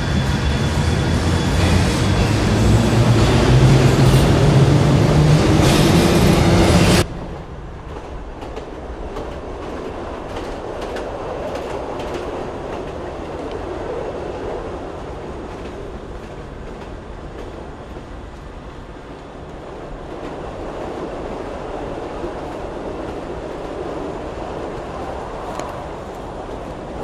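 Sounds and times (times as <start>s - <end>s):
metro train rumbling: 0.0s - 27.0s.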